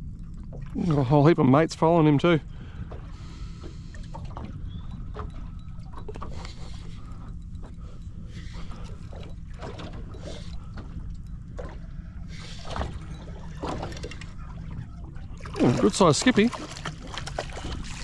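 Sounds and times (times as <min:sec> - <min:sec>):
water slapping boat hull: 0:00.0 - 0:18.0.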